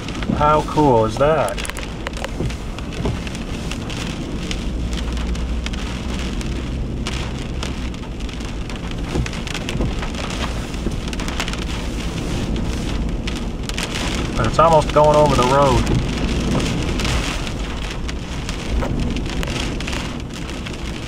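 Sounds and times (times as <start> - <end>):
low rumble: 0.0 - 21.0
rain on windshield: 0.0 - 21.0.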